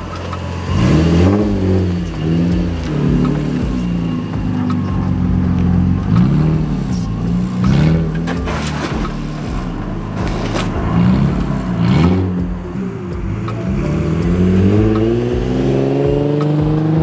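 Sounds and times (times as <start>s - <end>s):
loud car engine revving: 0.0s - 17.0s.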